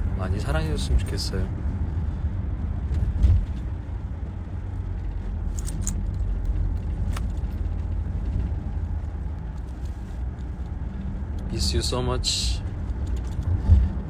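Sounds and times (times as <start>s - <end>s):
car rumble from inside cabin: 0.0s - 14.0s.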